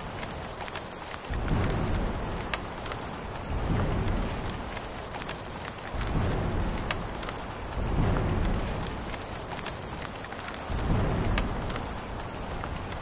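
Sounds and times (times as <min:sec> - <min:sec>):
steady rain: 0:00.0 - 0:13.0
low rolls of thunder: 0:01.2 - 0:13.0.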